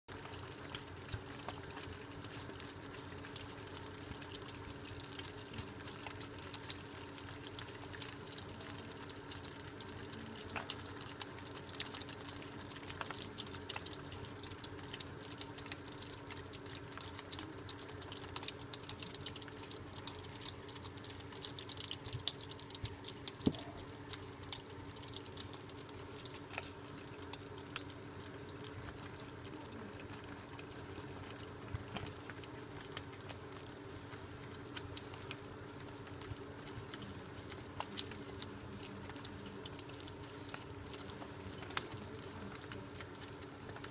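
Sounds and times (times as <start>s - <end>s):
animals chewing wet smacking: 0.1s - 43.9s
steady low hum: 0.1s - 43.9s.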